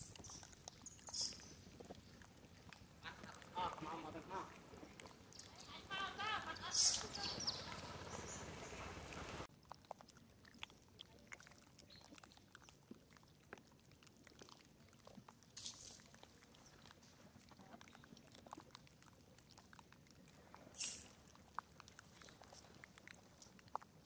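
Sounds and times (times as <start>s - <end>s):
small clicks and rustles: 0.0s - 3.5s, 7.0s - 24.0s.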